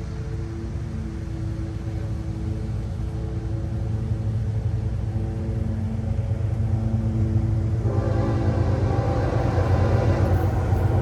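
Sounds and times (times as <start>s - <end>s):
faint steady tones: 0.0s - 11.0s
train rumbling by: 0.0s - 11.0s.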